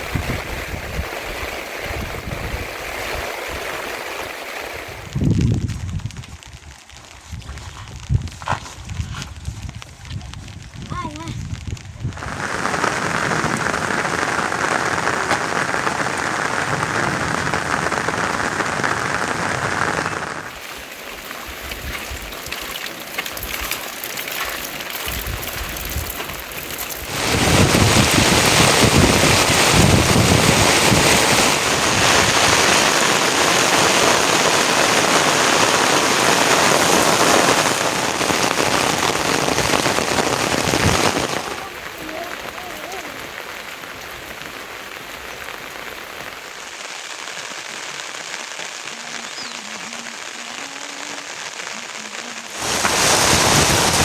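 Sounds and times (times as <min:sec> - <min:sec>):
heavy rain hissing: 0:00.0 - 0:06.2, 0:10.6 - 0:54.0.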